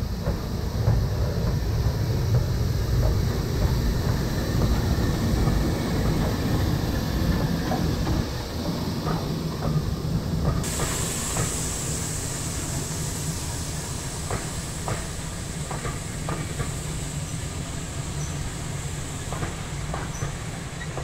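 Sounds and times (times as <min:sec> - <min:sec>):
train rolling past rumble: 0:00.0 - 0:21.0.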